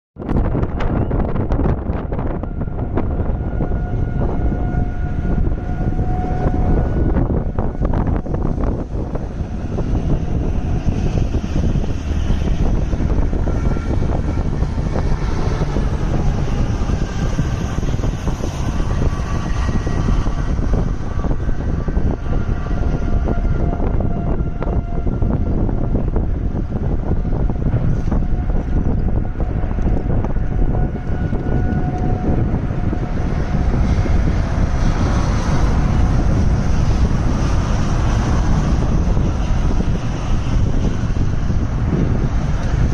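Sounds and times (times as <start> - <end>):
wind buffeting microphone: 0.2 - 42.9.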